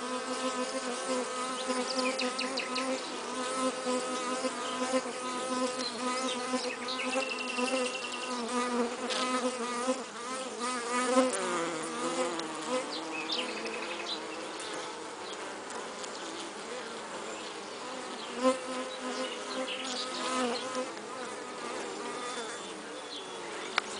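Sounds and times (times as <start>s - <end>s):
bees buzzing: 0.0s - 23.9s.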